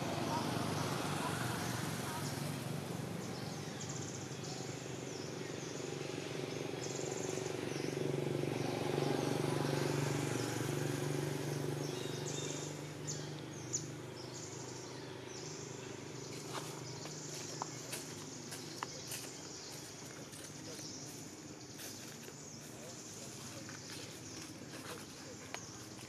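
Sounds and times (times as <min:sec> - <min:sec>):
insects chirping and buzzing: 0:00.0 - 0:26.0.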